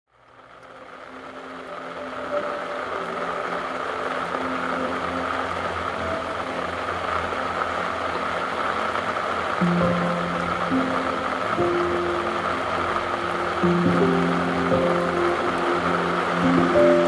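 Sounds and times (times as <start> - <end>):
heavy rain: 0.1 - 17.0.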